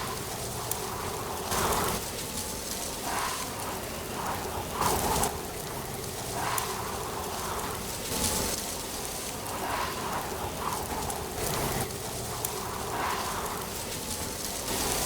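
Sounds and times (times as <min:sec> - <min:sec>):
wind rustling through leaves: 0:00.0 - 0:15.0.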